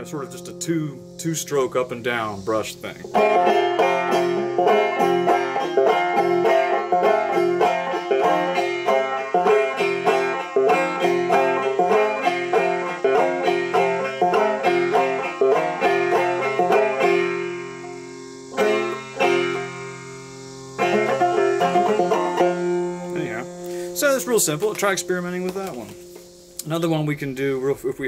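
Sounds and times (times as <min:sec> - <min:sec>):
banjo strumming: 0:00.0 - 0:27.6.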